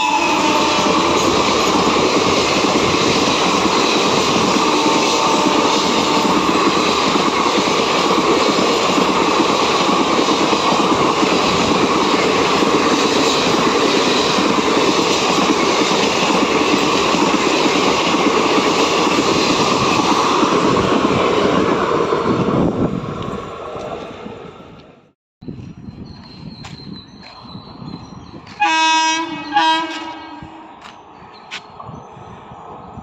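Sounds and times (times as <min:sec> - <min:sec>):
train wheels rushing on rails: 0:00.0 - 0:33.0.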